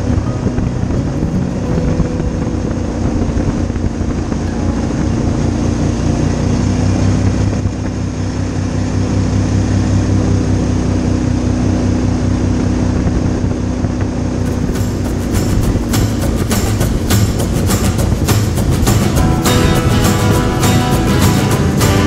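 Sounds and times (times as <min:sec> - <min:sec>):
outboard motor droning: 0:00.0 - 0:22.0.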